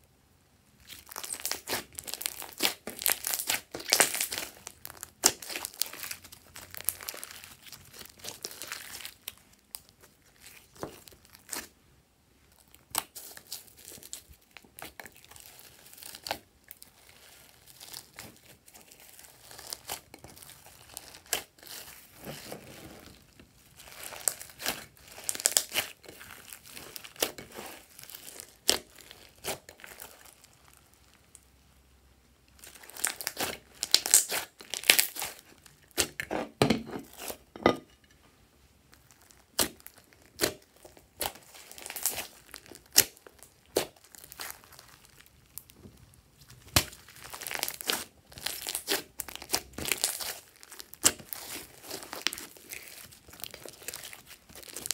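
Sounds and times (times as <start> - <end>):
slime squishing and crackling: 0.8 - 11.8, 12.4 - 31.6, 32.5 - 37.6, 38.8 - 54.9.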